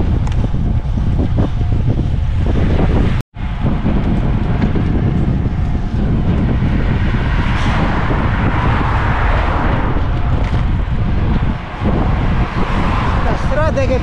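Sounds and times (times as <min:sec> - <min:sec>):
road noise: 0:00.0 - 0:14.0
wind rumbling on microphone: 0:00.0 - 0:14.0.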